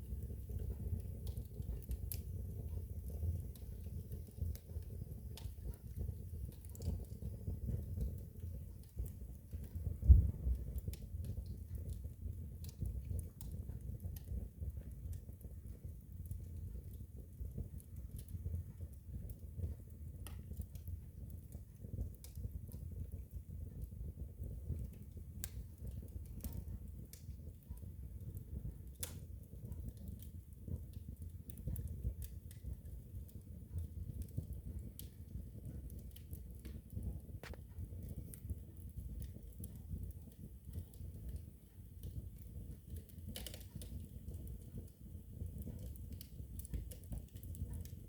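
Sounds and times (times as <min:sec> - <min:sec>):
fire crackling and popping: 0:00.0 - 0:48.0
fire flames rumbling: 0:00.0 - 0:48.0.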